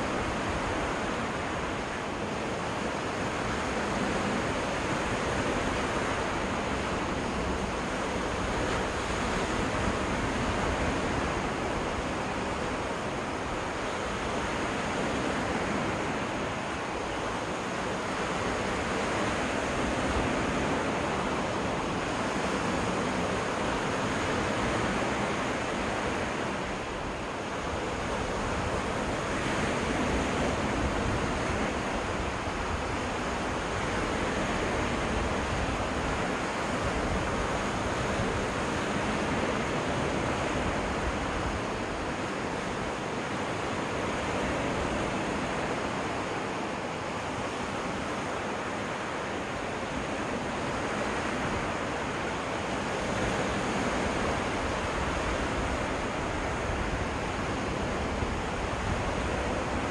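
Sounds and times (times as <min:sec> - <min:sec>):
waves washing onto beach: 0:00.0 - 0:59.9.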